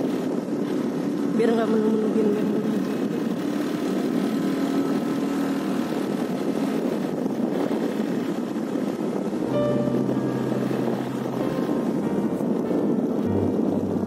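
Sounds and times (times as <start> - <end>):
motorcycle engine hum: 0.0 - 14.0
road noise: 0.0 - 14.0
wind rush: 0.0 - 14.0.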